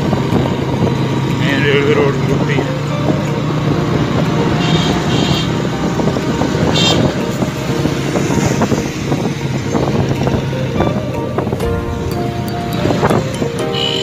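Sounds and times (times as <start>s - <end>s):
motorcycle engine running: 0.0s - 14.0s
traffic noise: 0.0s - 14.0s.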